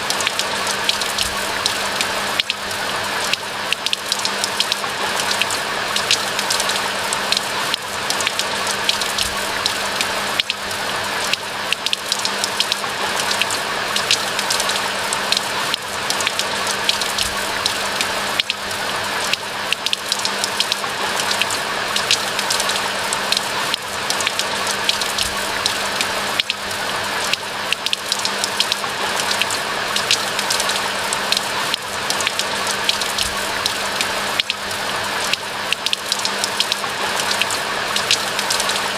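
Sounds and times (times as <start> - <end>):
steady rain with drop impacts: 0.0 - 38.9.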